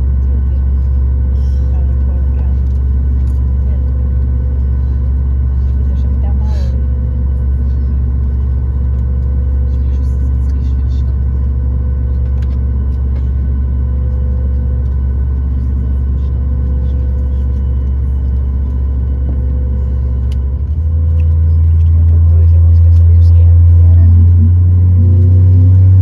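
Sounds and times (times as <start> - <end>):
air conditioning running: 0.0 - 26.0
airplane cabin engine drone: 0.0 - 26.0
faint steady whine: 0.0 - 26.0.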